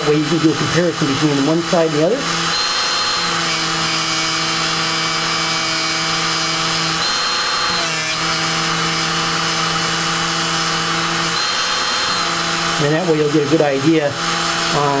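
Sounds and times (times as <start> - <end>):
rotary tool motor whine: 0.0 - 15.0.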